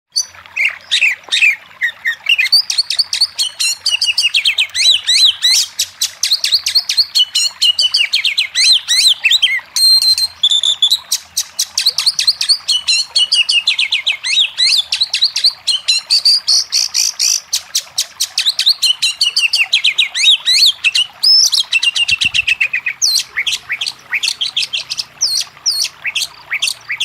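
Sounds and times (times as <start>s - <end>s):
bird singing chirps and trills: 0.1s - 27.0s.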